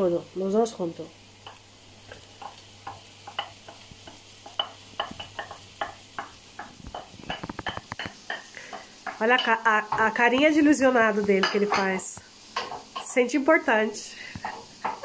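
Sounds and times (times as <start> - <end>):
vegetables sizzling faintly: 0.0 - 15.0
wooden spoon tapping pan: 1.4 - 13.2, 14.4 - 15.0.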